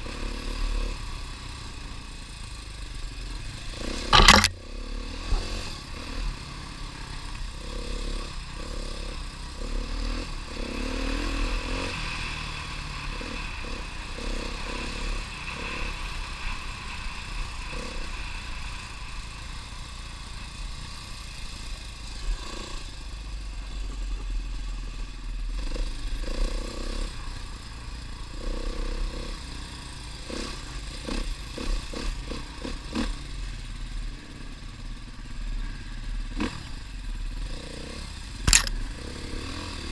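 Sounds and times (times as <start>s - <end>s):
trail bike engine running: 0.0s - 39.9s.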